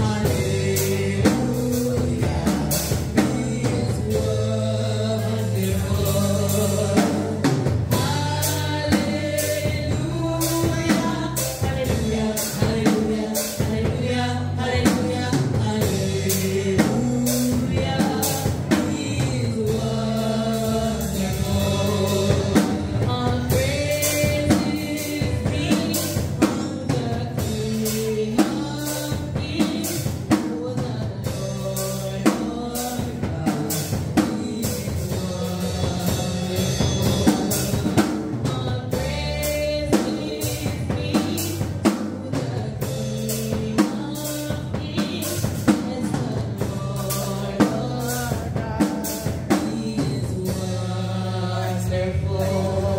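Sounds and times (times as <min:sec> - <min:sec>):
keyboard: 0:00.0 - 0:52.9
steady drum beat: 0:00.0 - 0:52.9
woman singing into a microphone: 0:00.0 - 0:52.9.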